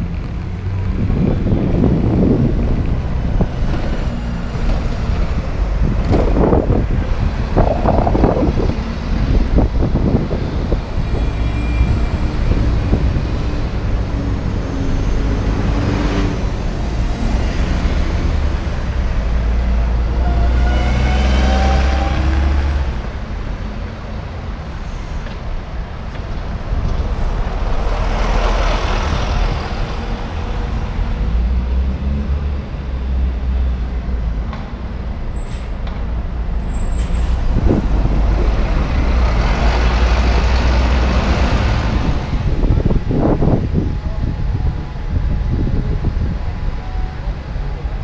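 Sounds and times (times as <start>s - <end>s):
bus accelerating with low rumble: 0.0s - 48.0s
city buses engines running: 0.0s - 48.0s
street traffic noise: 0.0s - 48.0s
wind gusts on microphone: 0.0s - 48.0s.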